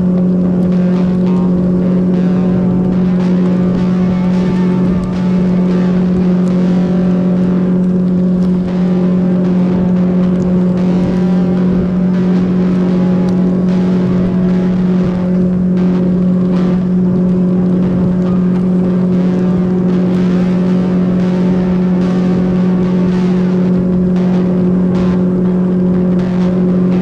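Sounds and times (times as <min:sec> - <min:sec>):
boat motor humming: 0:00.0 - 0:27.0
water noise: 0:00.0 - 0:27.0
wind noise: 0:00.0 - 0:27.0.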